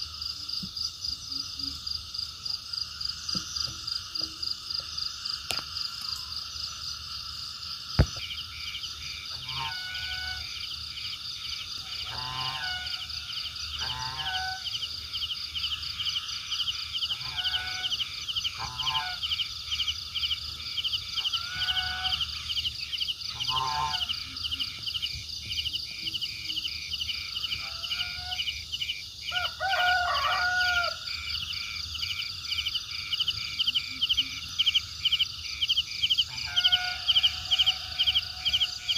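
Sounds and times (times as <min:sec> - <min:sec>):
frogs and insects trilling: 0:00.0 - 0:38.9
short frog calls: 0:00.0 - 0:38.9.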